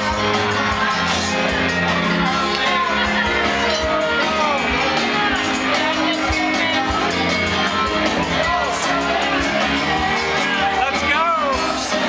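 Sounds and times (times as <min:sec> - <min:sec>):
bar crowd chatter and shouts: 0:00.0 - 0:12.0
loud music with singing: 0:00.0 - 0:12.0.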